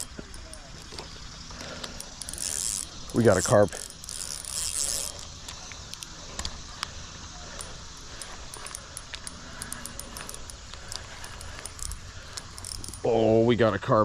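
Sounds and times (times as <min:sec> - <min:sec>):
fishing reel clicks: 0:00.0 - 0:13.3
fishing reel drag buzzing: 0:00.0 - 0:13.4.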